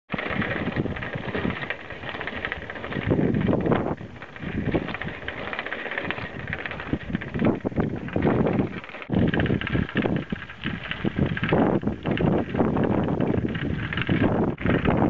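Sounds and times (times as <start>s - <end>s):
bicycle tyres crunching on gravel: 0.1s - 15.0s
wind buffeting microphone: 0.1s - 15.0s.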